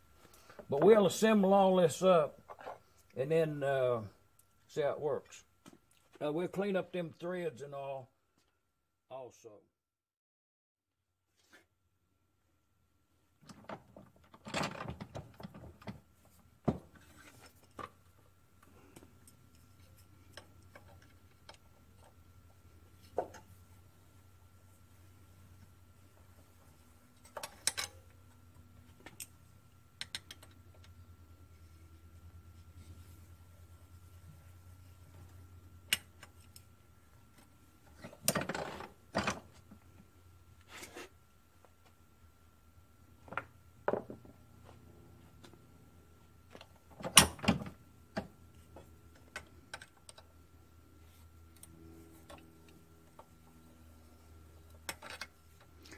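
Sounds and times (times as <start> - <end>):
faint steady hum: 0.0 - 9.7, 11.0 - 55.9.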